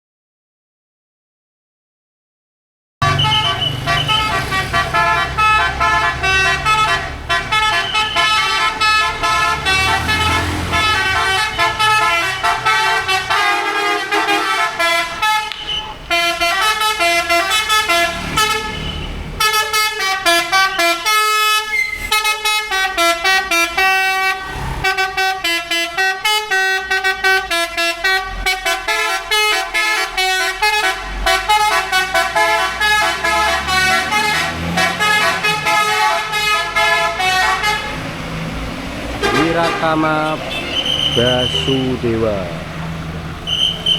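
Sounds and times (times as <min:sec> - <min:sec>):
bus horn playing a melody: 0:03.0 - 0:38.2, 0:39.2 - 0:42.5.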